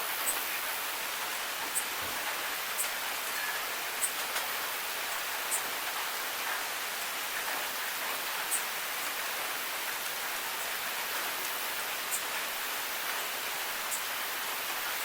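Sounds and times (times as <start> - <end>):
steady rain hissing: 0.0 - 15.0
sharp raindrop ticks: 1.2 - 14.1.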